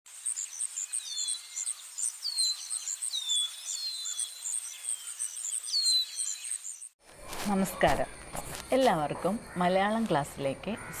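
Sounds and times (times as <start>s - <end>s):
insects chirping: 0.1s - 11.0s.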